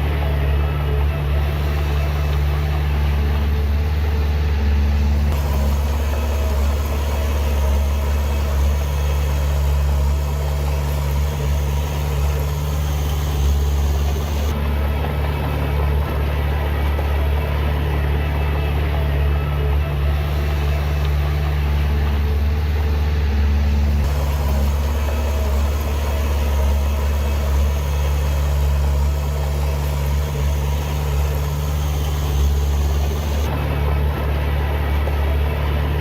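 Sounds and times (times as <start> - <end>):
diesel machinery engine droning: 0.0 - 36.0.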